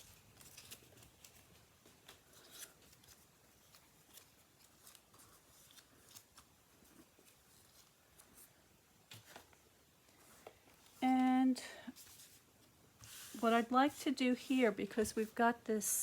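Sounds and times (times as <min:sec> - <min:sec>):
paper rustling: 0:00.0 - 0:11.0, 0:11.9 - 0:14.1.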